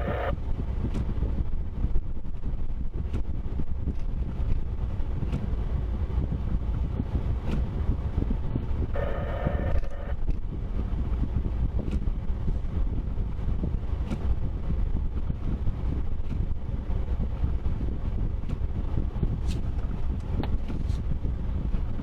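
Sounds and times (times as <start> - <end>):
vehicle driving rumble: 0.0 - 22.0
wind buffeting microphone: 0.0 - 22.0.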